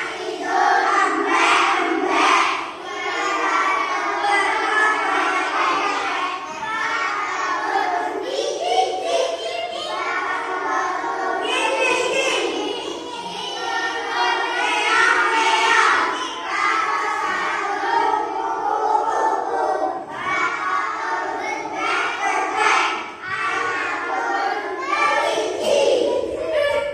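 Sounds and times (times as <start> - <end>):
children chanting in unison: 0.0 - 26.9.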